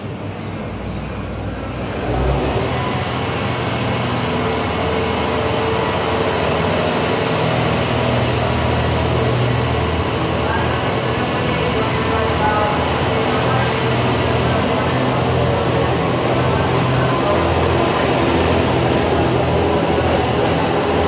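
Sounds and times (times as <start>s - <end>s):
diesel railcars pulling out: 0.0s - 21.0s.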